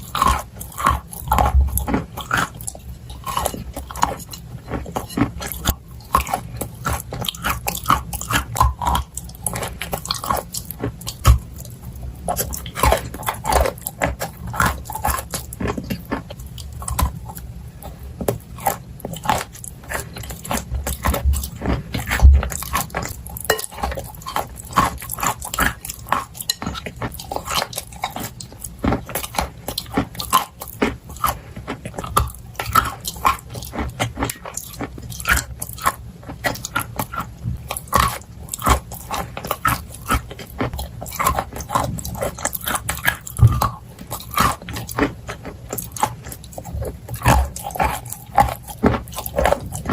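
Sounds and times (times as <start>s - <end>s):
crunching and chewing clay: 0.0s - 49.9s.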